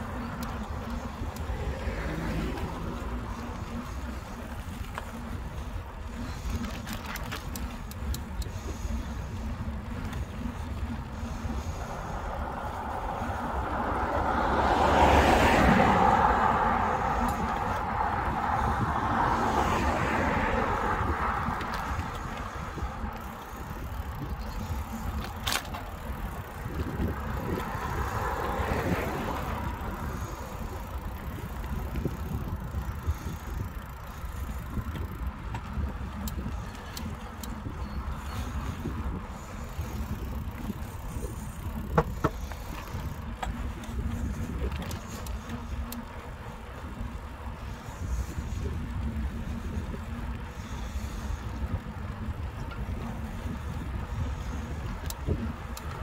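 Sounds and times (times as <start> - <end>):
bicycle clicks and knocks: 0.0 - 56.0
wind and tyres rumbling: 0.0 - 56.0.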